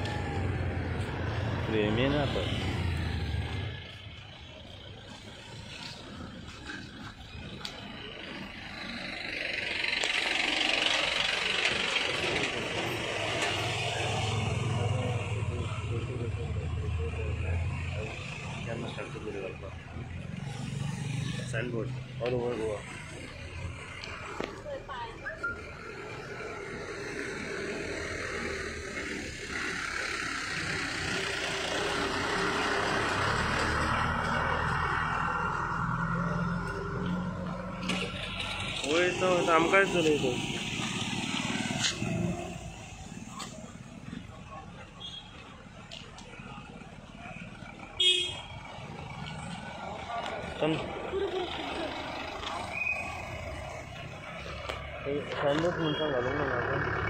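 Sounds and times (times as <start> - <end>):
car driving away: 0.0 - 57.0
truck engine rumbling: 0.0 - 57.0.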